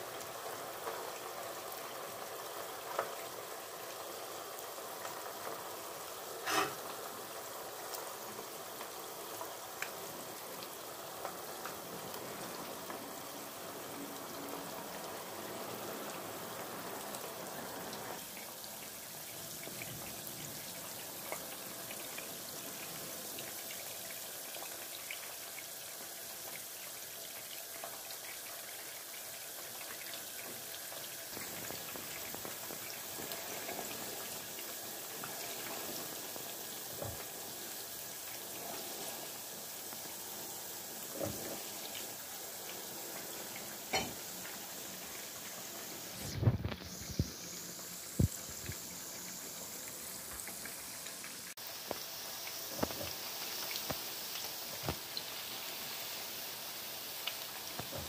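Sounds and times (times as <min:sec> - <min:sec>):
oil sizzling with small pops: 0:00.0 - 0:58.0.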